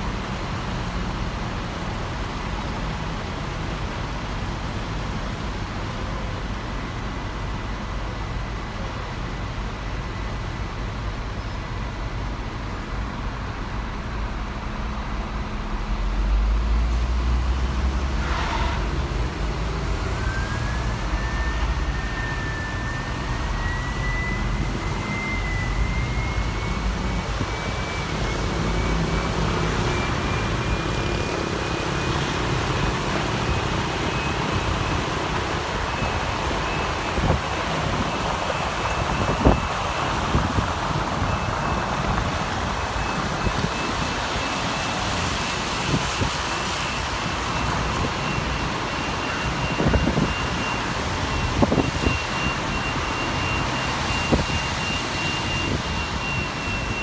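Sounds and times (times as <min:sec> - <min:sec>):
bus engine rumble: 0:00.0 - 0:57.0
road noise: 0:00.0 - 0:57.0.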